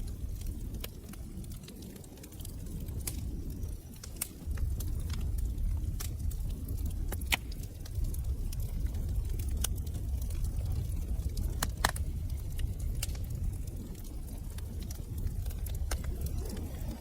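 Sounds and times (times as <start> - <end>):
fire crackling and popping: 0.0 - 17.0
low rumble: 2.4 - 17.0.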